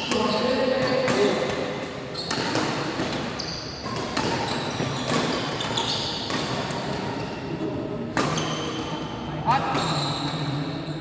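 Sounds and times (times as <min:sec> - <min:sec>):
rackets striking shuttlecock: 0:00.0 - 0:07.2, 0:08.1 - 0:10.6.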